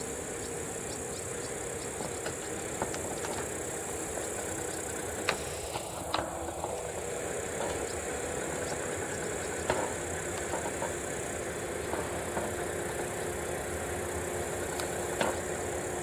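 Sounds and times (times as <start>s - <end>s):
electric locomotive hauling train: 0.0s - 16.0s.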